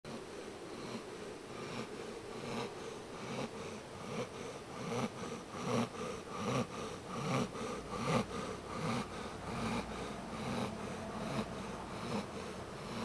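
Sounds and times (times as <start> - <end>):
pet snoring: 0.1 - 13.0.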